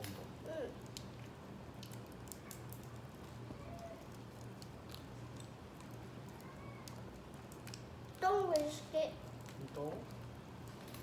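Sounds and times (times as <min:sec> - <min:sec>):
small clicks and crunches: 0:00.0 - 0:11.0.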